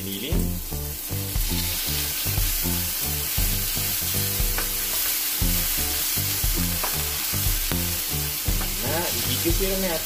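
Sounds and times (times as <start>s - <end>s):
meat sizzling in hot oil: 0.0s - 10.0s.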